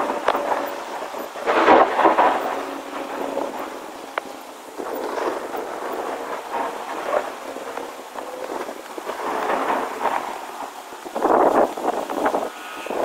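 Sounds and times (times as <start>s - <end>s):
rumbling thunder: 0.0s - 13.0s
steady rain: 0.0s - 13.0s.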